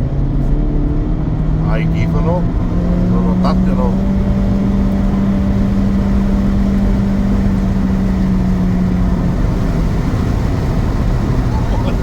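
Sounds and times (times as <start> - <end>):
car engine drone in cabin: 0.0 - 12.0
low road rumble: 0.0 - 12.0.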